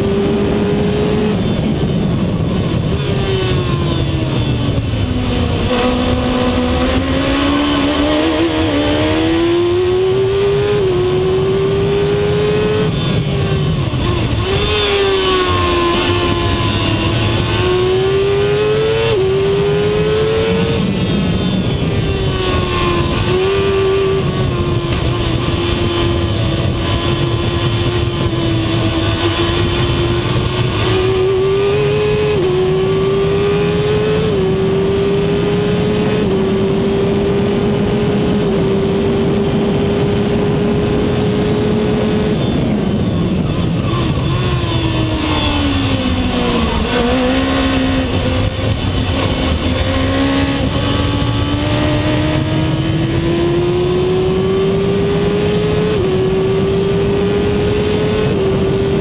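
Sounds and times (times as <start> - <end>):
racing car engine revving: 0.0 - 59.0
wind and road noise: 0.0 - 59.0.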